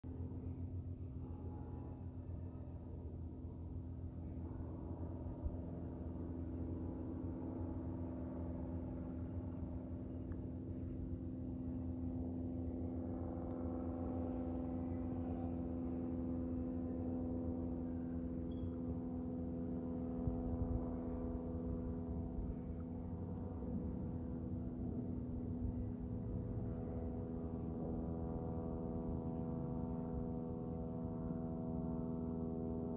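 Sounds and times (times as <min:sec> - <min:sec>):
propeller plane droning overhead: 0:00.0 - 0:32.9.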